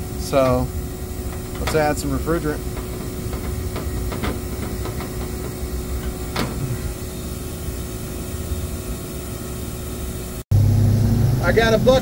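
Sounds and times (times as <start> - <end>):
air conditioner unit humming: 0.0 - 10.4.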